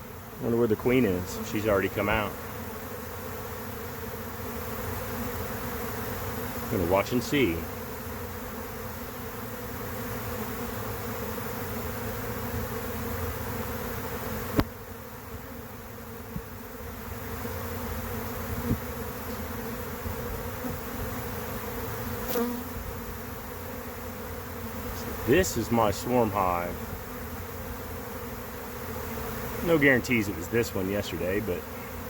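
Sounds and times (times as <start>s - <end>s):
bee swarm buzzing: 0.0s - 32.0s.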